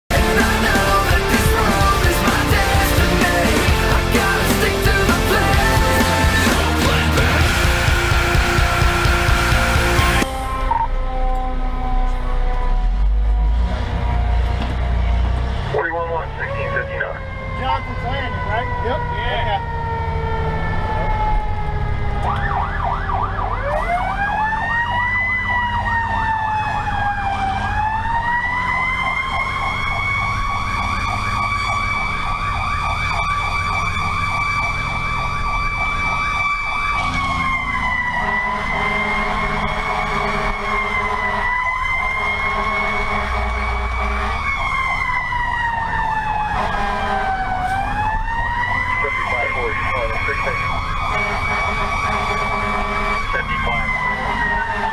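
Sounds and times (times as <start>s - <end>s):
fire truck siren wailing: 0.1s - 54.9s
truck engine: 0.1s - 54.9s
low steady siren tone: 7.6s - 54.9s.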